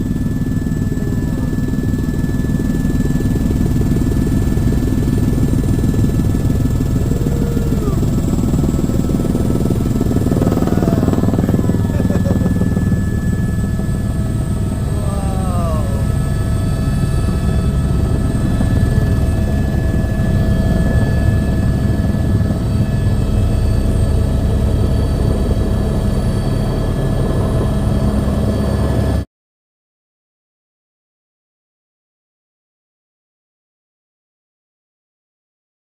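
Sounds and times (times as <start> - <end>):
helicopter rotor chop: 0.0 - 29.2
helicopter turbine whine: 0.0 - 29.2.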